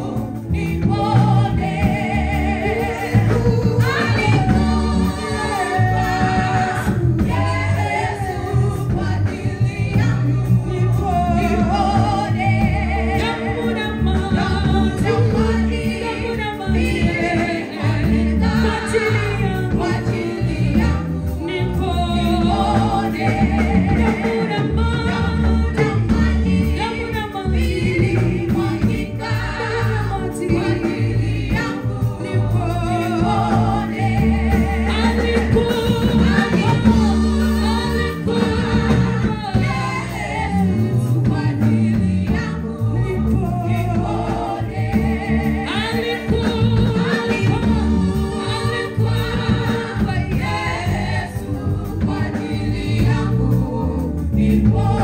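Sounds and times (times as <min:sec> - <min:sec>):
gospel group singing: 0:00.0 - 0:55.0
instrumental accompaniment: 0:00.0 - 0:55.0.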